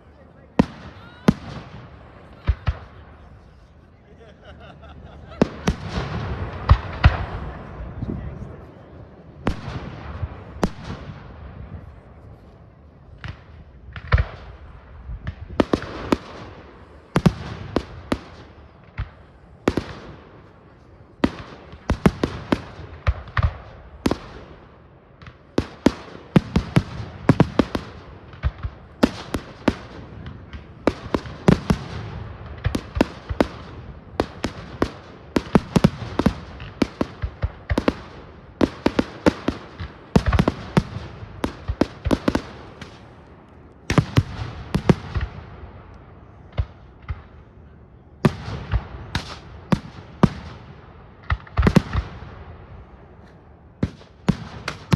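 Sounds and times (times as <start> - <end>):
fireworks bangs and cracks: 0.4 - 3.2, 5.2 - 8.4, 9.4 - 12.0, 13.1 - 45.9, 48.2 - 52.7, 53.8 - 54.9.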